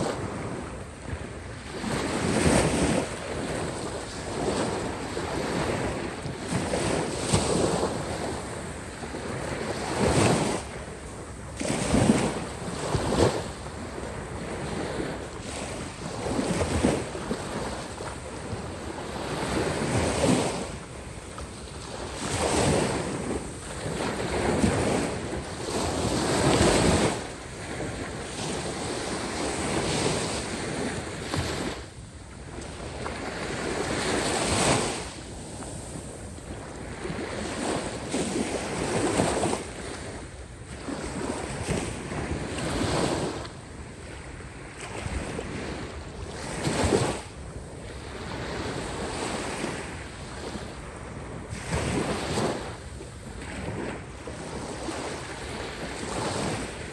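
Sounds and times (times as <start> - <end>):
waves breaking on shore: 0.0 - 56.9
wind buffeting microphone: 0.0 - 56.9.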